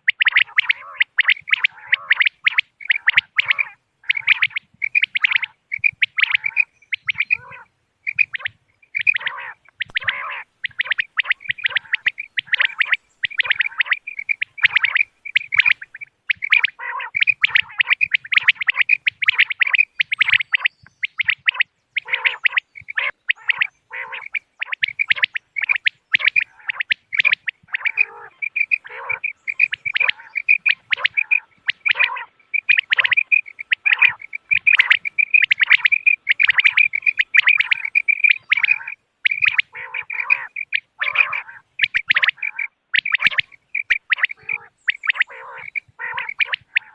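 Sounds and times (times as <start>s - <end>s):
quail calling: 0.0s - 46.9s.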